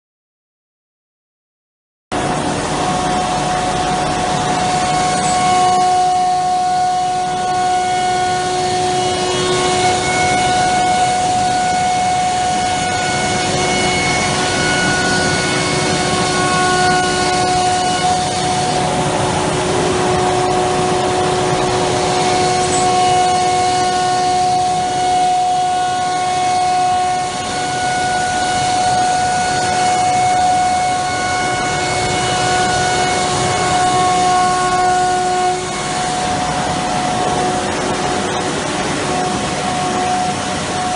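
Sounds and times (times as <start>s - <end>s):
cnc router whining: 2.1s - 40.9s.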